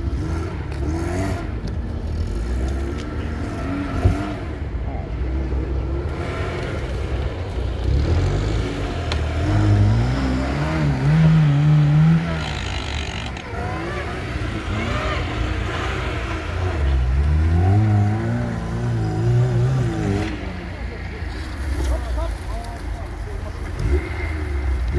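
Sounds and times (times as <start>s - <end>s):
car engine revving under load: 0.0s - 22.2s, 23.5s - 24.9s.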